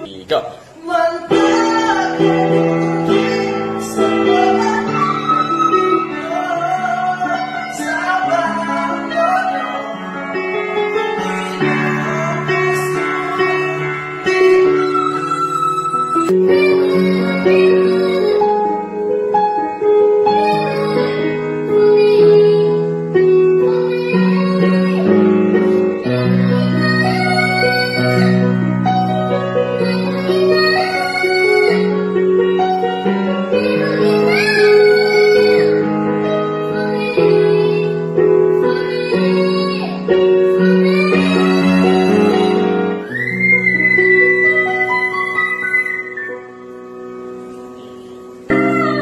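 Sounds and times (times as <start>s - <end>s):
piano: 0.0s - 49.0s
girl singing: 0.6s - 46.7s, 47.8s - 49.0s.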